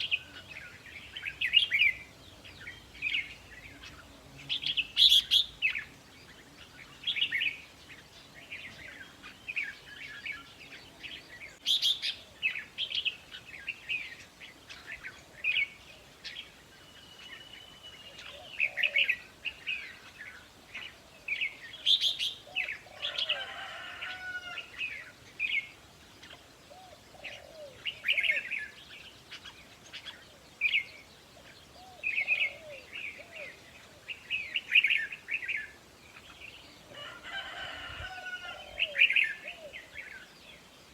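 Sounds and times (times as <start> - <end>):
birds singing warbling whistles: 0.0 - 5.9, 6.6 - 23.4, 24.9 - 36.7.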